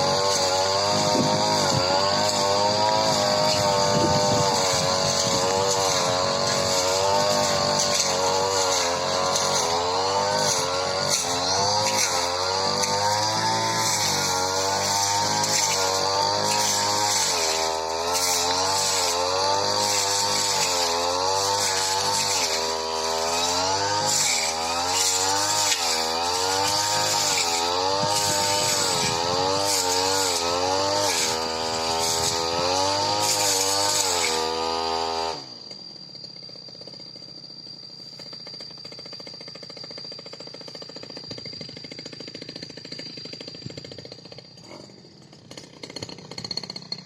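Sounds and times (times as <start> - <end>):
brush cutter engine cutting grass: 0.0 - 47.0.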